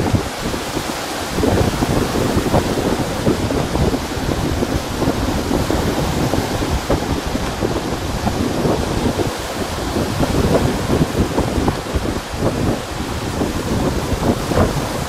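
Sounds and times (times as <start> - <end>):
lake waves washing onto shore: 0.0 - 15.0
wind on microphone: 0.0 - 15.0.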